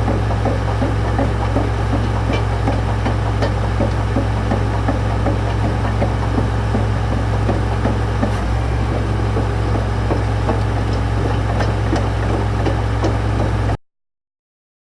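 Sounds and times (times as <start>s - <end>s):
excavator diesel engine idling: 0.0s - 13.8s.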